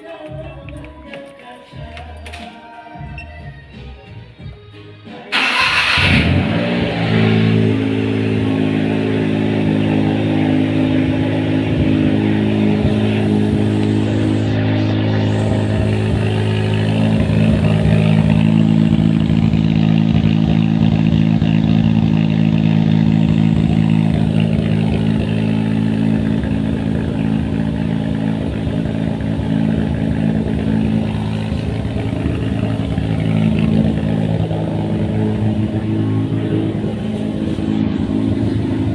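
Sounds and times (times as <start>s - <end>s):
engine idling: 5.3s - 38.9s.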